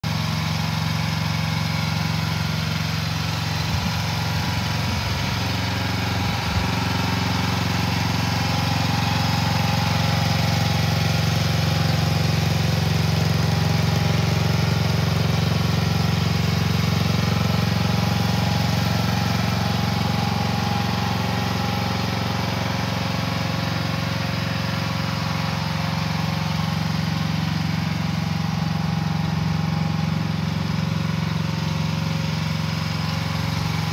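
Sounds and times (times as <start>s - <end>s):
mini excavator engine idling: 0.0s - 33.9s.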